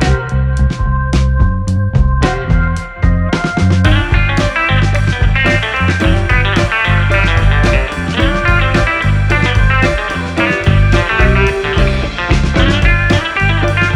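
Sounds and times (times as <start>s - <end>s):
guitar-led music with beat: 0.0s - 13.9s.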